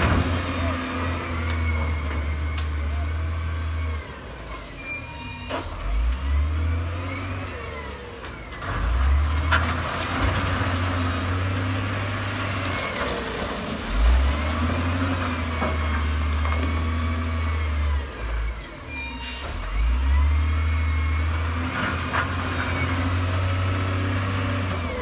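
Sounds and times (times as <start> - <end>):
diesel machinery revving: 0.0 - 25.0.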